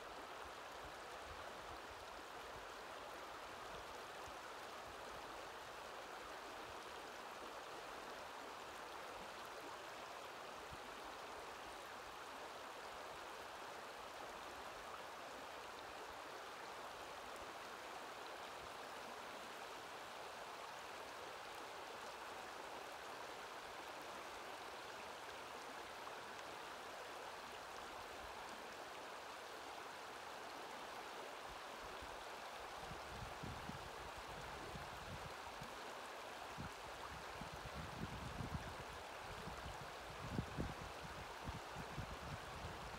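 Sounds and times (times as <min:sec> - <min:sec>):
river babbling over cobbles: 0:00.0 - 0:42.9.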